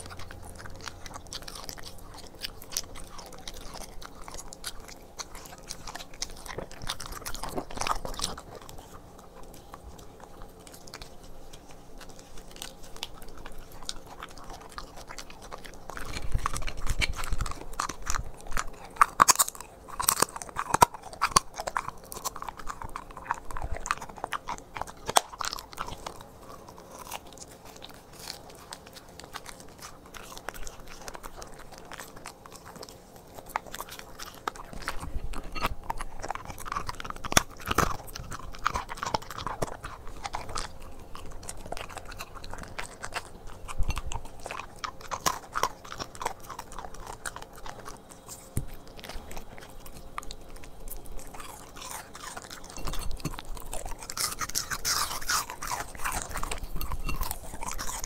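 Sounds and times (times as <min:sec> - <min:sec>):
dog chewing meat: 0:00.0 - 0:58.0.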